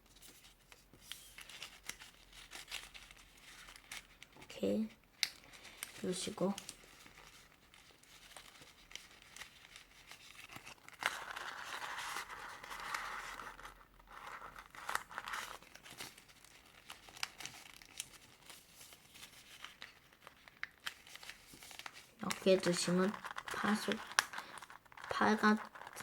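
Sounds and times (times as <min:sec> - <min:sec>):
paper rustling and crinkling: 0:00.0 - 0:26.0
paper crackle: 0:00.1 - 0:26.0.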